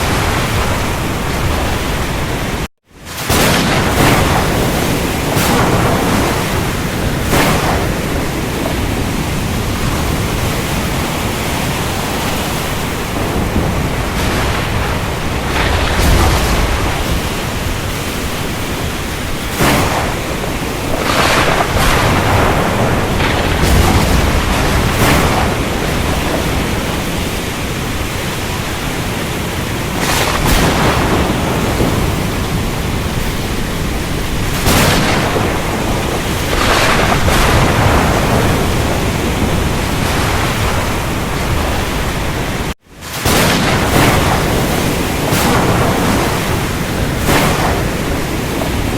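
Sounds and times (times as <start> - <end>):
wind rushing: 0.0 - 42.8
ocean surf: 0.0 - 48.9
rain: 0.0 - 48.9
thunder cracks: 0.0 - 48.9.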